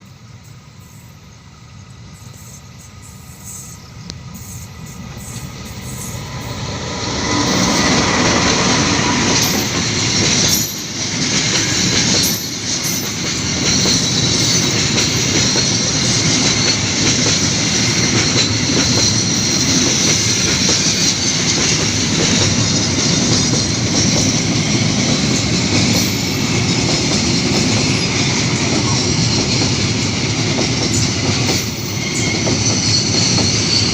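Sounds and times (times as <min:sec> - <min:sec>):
train rumbling past: 0:00.0 - 0:33.9
wheels clattering on rails: 0:03.6 - 0:33.9.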